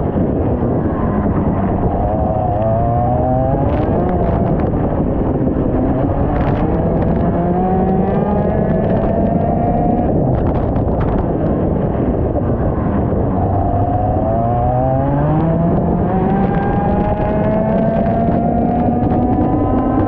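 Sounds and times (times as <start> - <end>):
rough microphone noise: 0.0 - 20.0.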